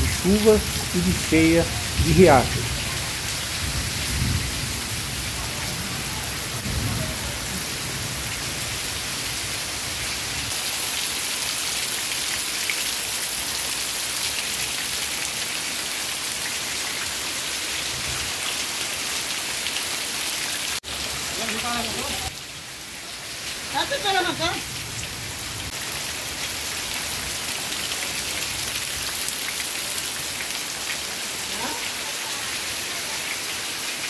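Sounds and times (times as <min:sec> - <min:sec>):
heavy rain on puddles: 0:00.0 - 0:34.0.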